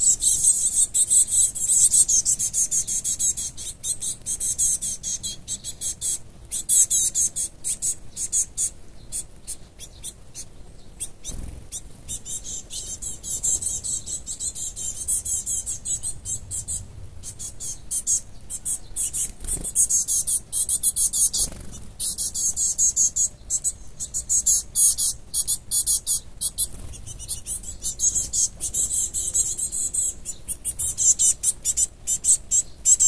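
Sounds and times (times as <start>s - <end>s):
high-pitched chirping: 0.0s - 33.0s.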